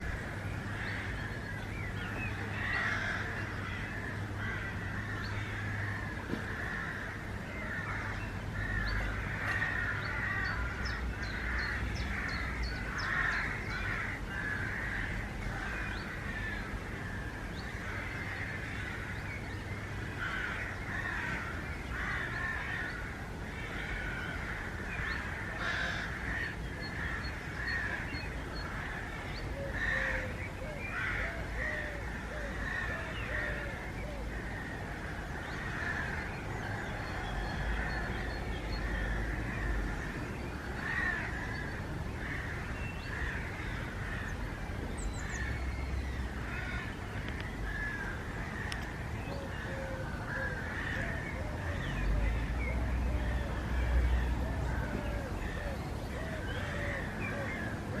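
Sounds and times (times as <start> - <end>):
chorus of birds calling: 0.0 - 58.0.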